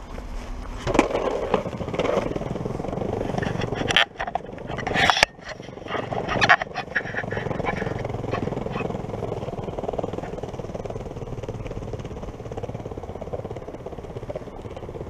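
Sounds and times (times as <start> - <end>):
longboard wheels rumbling on bricks: 0.0 - 15.0.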